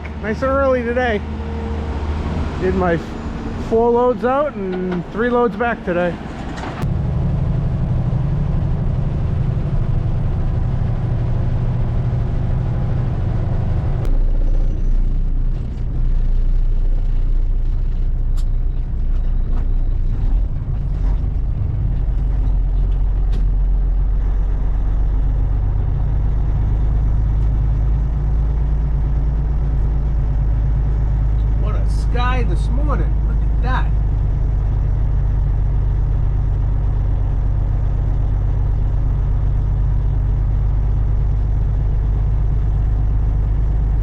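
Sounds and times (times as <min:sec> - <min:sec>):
diesel truck engine droning: 0:00.0 - 0:44.0.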